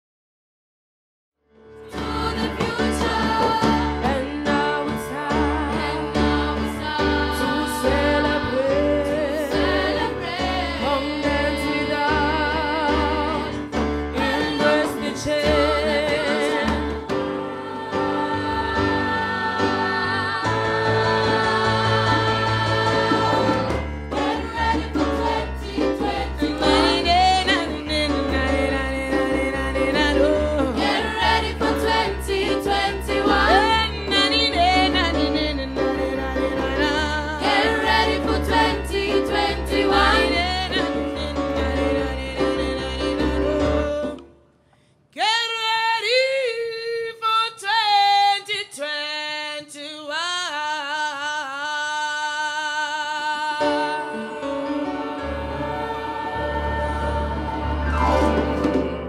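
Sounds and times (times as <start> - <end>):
group of voices singing: 1.9 - 44.4, 53.6 - 58.9.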